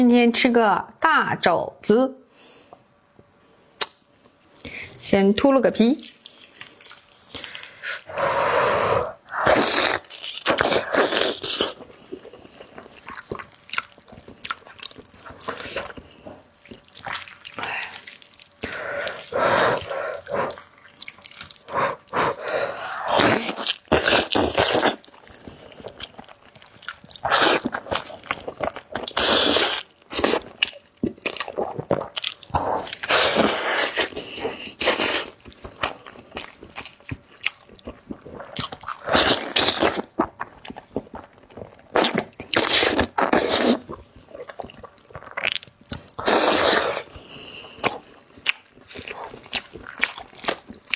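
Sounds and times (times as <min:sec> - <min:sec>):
person biting and chewing: 0:06.1 - 0:47.1, 0:47.8 - 0:50.9.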